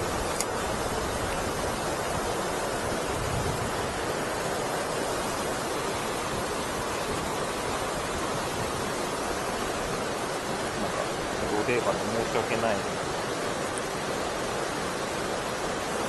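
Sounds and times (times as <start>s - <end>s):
river water pouring over weir: 0.0s - 16.0s.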